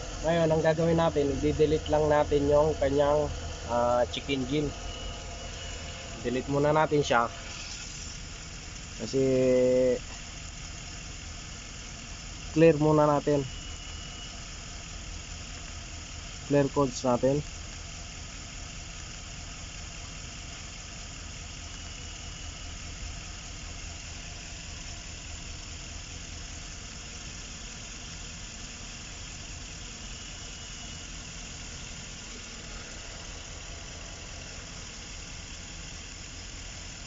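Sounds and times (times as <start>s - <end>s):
van engine idling: 0.0s - 37.0s.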